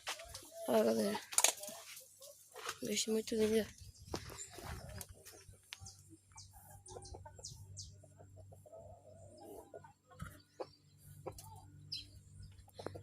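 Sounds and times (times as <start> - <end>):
chickens clucking: 0.0 - 3.2, 4.1 - 13.0
small birds chirping: 0.2 - 13.0.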